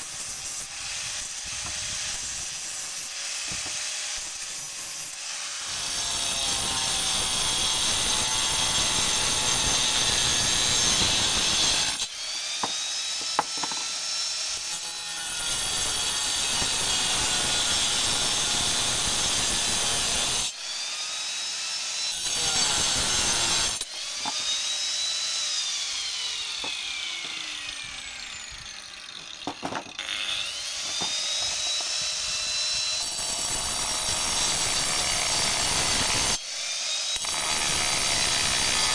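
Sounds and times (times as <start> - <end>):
angle grinder cutting steel: 0.0 - 38.9.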